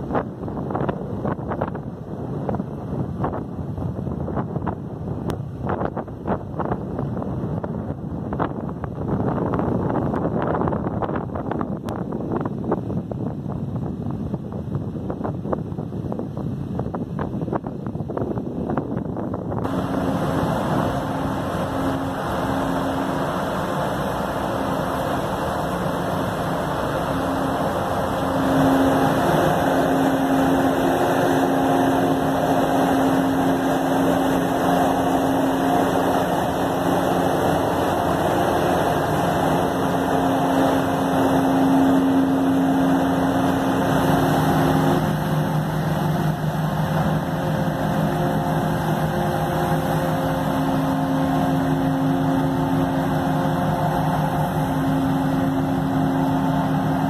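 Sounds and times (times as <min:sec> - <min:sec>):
tugboat diesel engines droning: 0:00.0 - 0:57.0.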